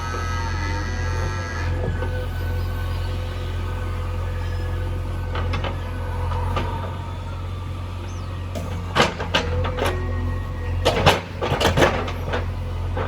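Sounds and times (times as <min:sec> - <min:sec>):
heavy machinery engine rumbling: 0:00.0 - 0:13.0.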